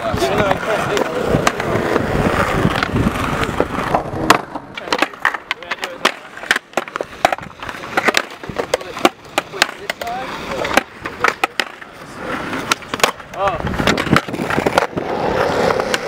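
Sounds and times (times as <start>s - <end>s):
skateboard clacking on ground: 0.0s - 16.0s
skateboard rolling on concrete: 0.0s - 16.0s.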